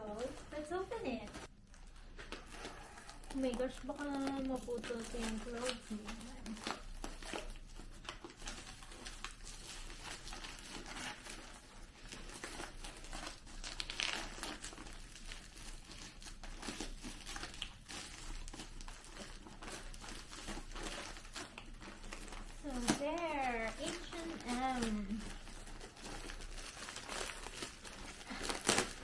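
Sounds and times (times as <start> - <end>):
plastic and paper crinkling: 0.0 - 29.0.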